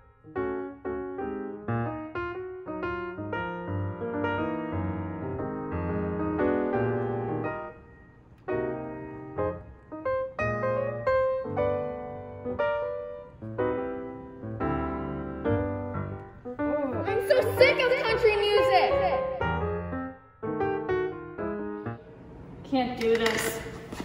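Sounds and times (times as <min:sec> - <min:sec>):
slow piano music: 0:00.0 - 0:22.6.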